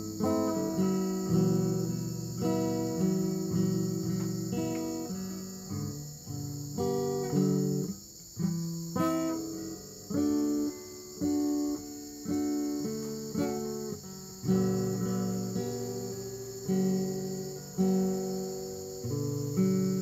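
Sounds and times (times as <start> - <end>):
acoustic guitar melody: 0.0 - 20.0.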